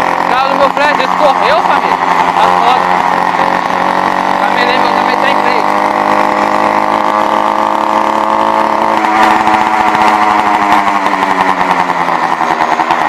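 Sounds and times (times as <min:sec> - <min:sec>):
small bicycle engine running: 0:00.0 - 0:13.0.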